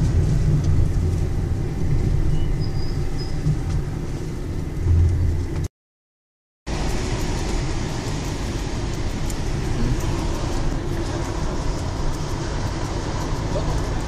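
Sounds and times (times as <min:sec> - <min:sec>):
car cabin road and engine noise: 0:00.0 - 0:05.7, 0:06.7 - 0:14.0.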